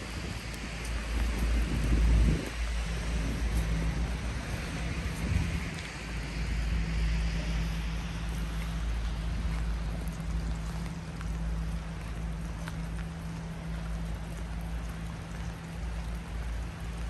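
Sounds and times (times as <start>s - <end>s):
low hum and rumble: 0.0s - 17.0s
steady rain: 0.0s - 17.0s.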